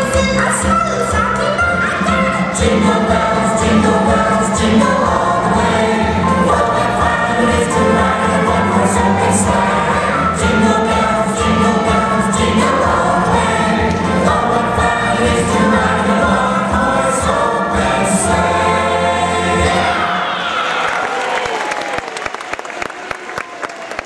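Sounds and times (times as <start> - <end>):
musical backing music: 0.0 - 20.6
choir singing: 0.0 - 21.0.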